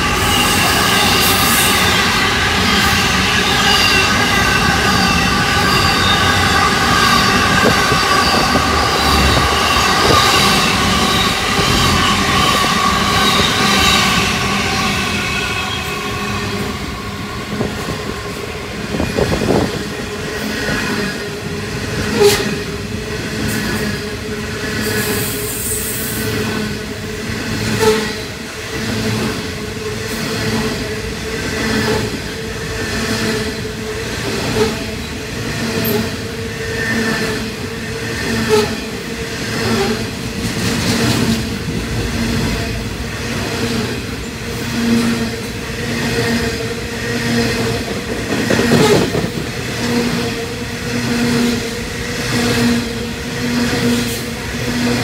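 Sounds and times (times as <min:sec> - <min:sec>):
train wheels rumbling and clattering: 0:00.0 - 0:55.0.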